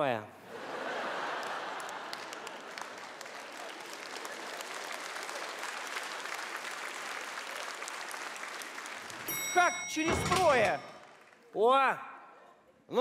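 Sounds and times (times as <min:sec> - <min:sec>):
audience applauding: 0:01.0 - 0:11.5.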